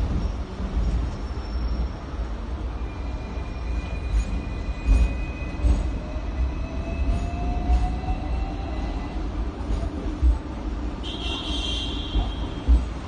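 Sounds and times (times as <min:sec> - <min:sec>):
tram rumbling on tracks: 0:00.0 - 0:13.0.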